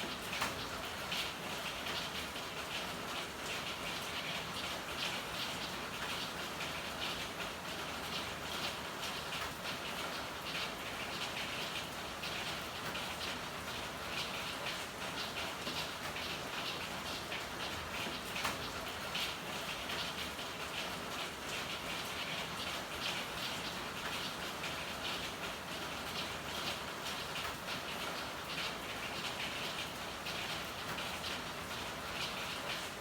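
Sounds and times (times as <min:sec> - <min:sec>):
rain drips and splashes: 0:00.0 - 0:33.0
steady rain: 0:00.0 - 0:33.0.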